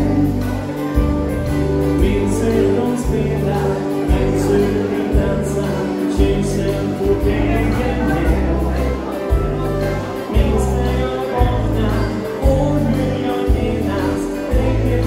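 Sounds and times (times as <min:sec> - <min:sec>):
bass line: 0:00.0 - 0:15.0
electric guitar: 0:00.0 - 0:15.0
keyboard: 0:00.0 - 0:15.0
person singing: 0:00.0 - 0:15.0.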